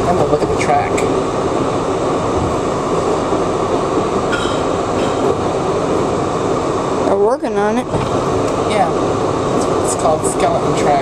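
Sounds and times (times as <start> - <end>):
subway car rumbling on track: 0.0 - 11.0.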